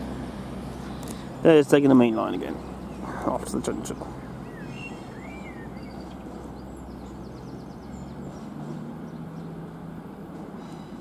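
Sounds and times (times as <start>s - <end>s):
diesel train engine drone: 0.0s - 11.0s
small birds chirping: 0.5s - 9.8s.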